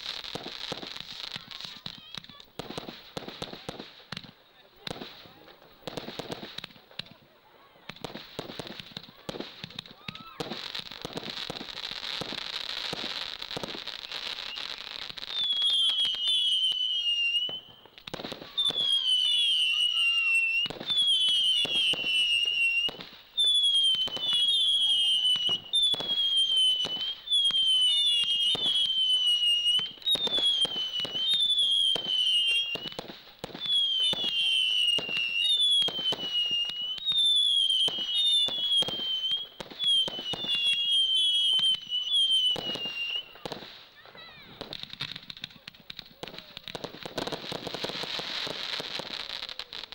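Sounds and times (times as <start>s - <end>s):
firework bangs: 0.0s - 49.9s
fireworks hissing crackle: 0.0s - 49.9s
whistling firework shots: 0.0s - 49.9s.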